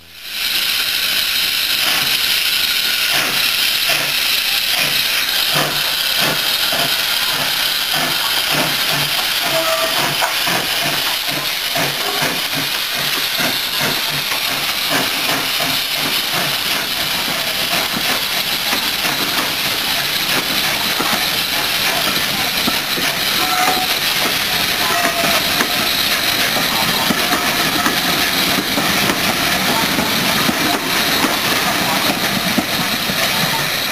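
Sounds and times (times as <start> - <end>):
steam hissing: 0.0 - 33.9
steam locomotive exhaust chuffs: 0.0 - 33.9.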